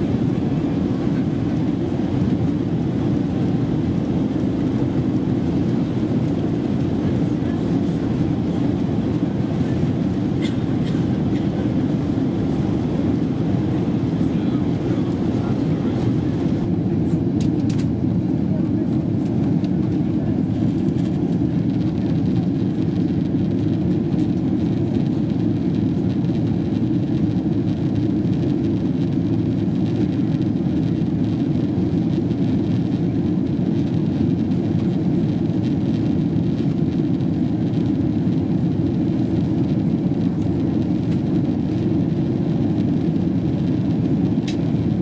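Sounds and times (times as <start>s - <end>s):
airliner engines rumbling: 0.0s - 45.0s.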